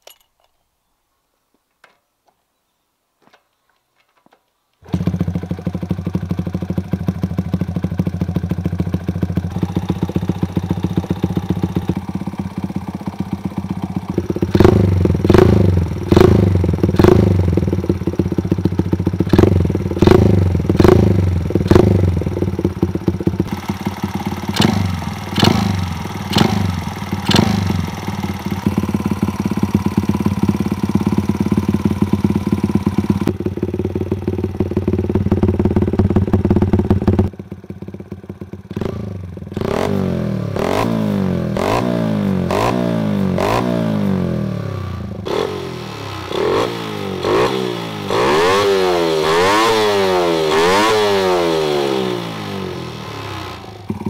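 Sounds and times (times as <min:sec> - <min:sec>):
motorcycle engine idling and revving: 0:04.9 - 0:54.0.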